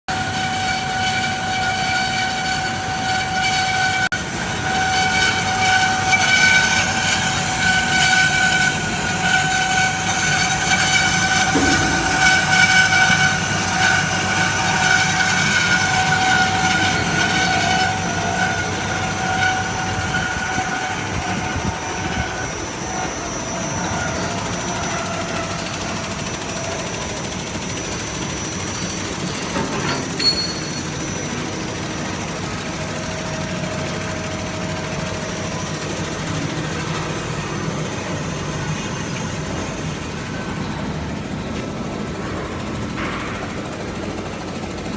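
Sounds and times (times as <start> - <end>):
band saw cutting metal: 0.1 - 41.3
mechanical noise: 0.1 - 44.9.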